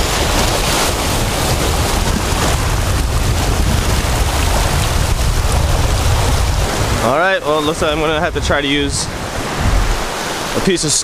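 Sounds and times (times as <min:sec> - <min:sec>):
wind buffeting microphone: 0:00.0 - 0:10.6
surf washing over rocks: 0:00.0 - 0:11.0.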